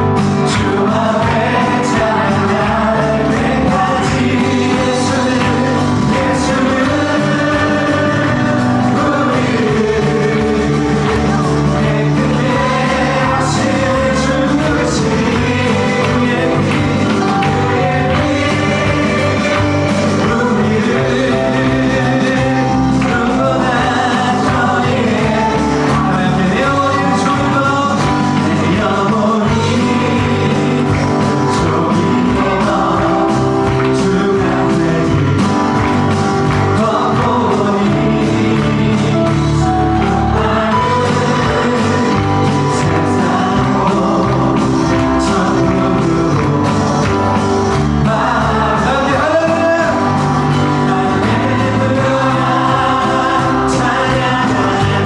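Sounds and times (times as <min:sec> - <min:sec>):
voices singing with a band: 0:00.0 - 0:55.0.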